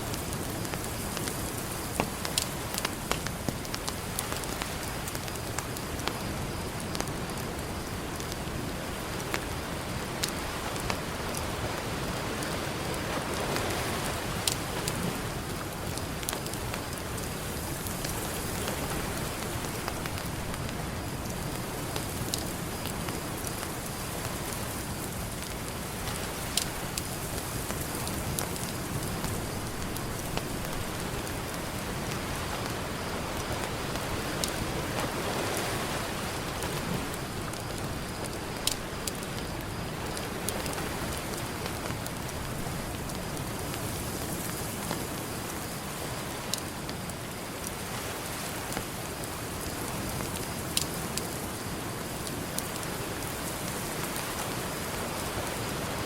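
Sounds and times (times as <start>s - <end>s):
campfire crackling and popping: 0.0s - 56.0s
ocean surf: 8.2s - 56.0s.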